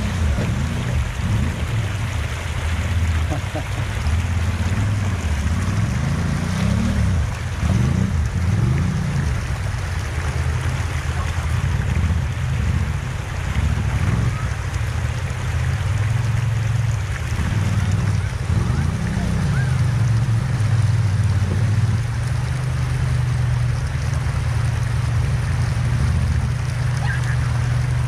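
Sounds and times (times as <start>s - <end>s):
engine revving: 0.0s - 14.7s, 15.7s - 28.0s
river rapids rushing: 0.0s - 28.0s.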